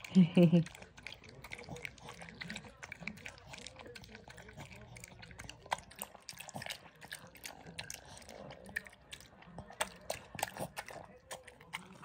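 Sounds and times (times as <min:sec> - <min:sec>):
dog lapping and chewing: 0:00.0 - 0:12.0.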